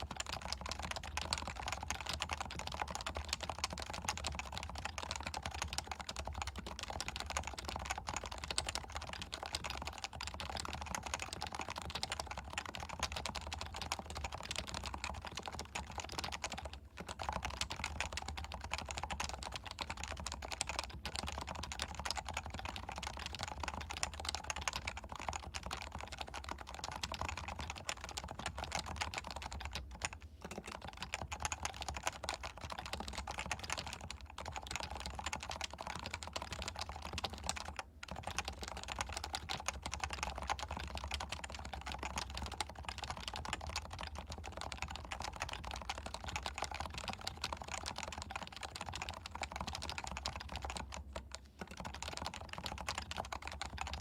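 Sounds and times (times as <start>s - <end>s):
mechanical keyboard typing: 0.0s - 54.0s.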